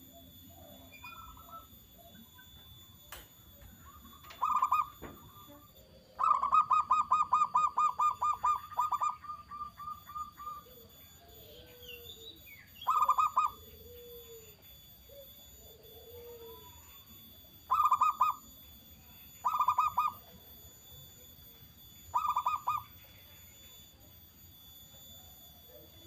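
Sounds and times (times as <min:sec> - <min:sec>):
dove rapid repeated calls: 0:00.0 - 0:26.0.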